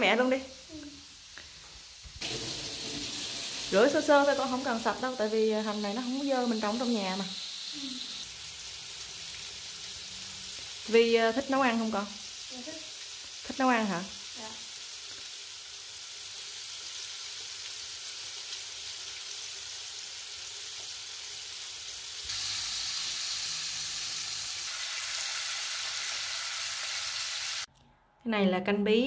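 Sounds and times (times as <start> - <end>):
fish sizzling in oil: 0.0 - 27.7.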